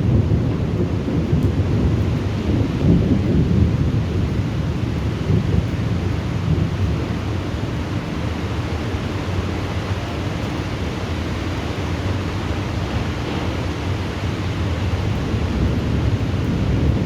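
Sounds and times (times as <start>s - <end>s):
rain: 0.0s - 17.0s.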